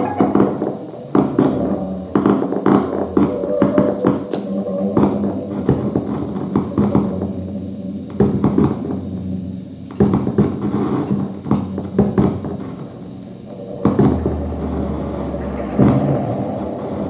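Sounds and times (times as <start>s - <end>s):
low drone: 0.0s - 17.0s.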